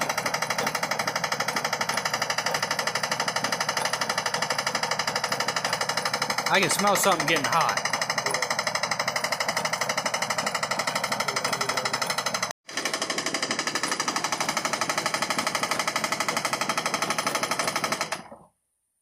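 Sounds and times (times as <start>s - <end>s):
air compressor pump pulsing: 0.0s - 18.5s.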